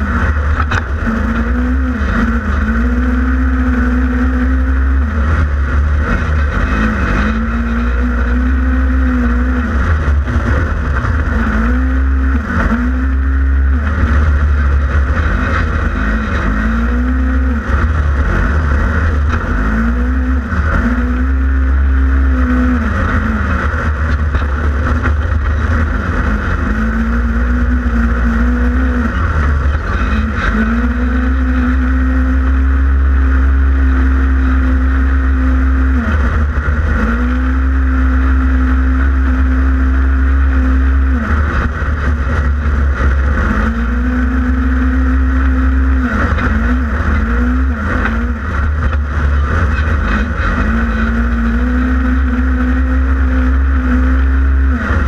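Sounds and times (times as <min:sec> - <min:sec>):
engine revving hard: 0:00.0 - 0:55.0.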